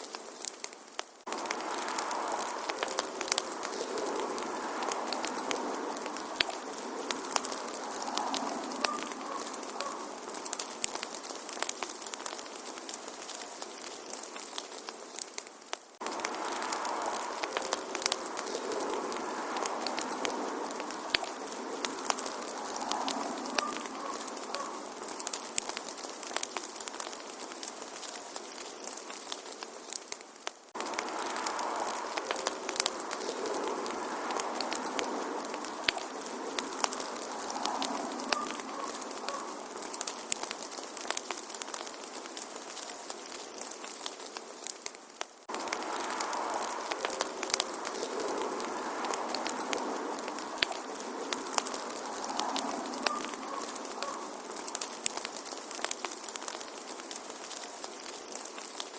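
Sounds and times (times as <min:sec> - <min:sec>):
soft hissing: 0:00.0 - 0:41.6, 0:42.2 - 0:56.3
wood fire crackling and popping: 0:00.0 - 0:58.9.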